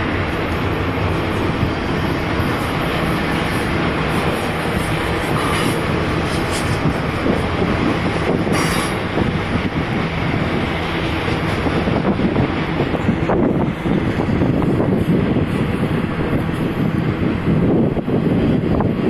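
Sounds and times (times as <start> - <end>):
freight train cars rolling: 0.0 - 19.0.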